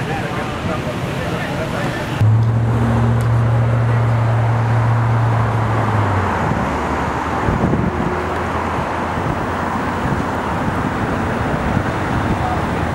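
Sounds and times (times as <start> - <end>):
road traffic passing: 0.0 - 12.9.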